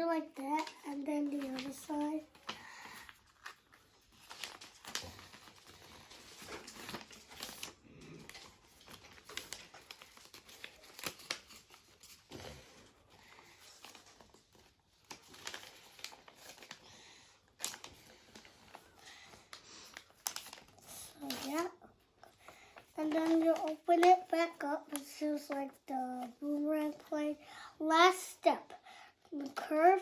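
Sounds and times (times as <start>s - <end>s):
paper being folded and creased: 0.1s - 27.4s.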